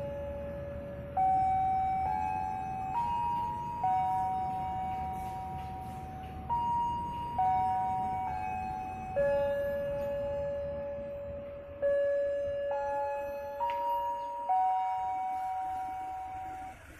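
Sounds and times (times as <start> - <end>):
public-address chime melody: 0.0 - 16.8.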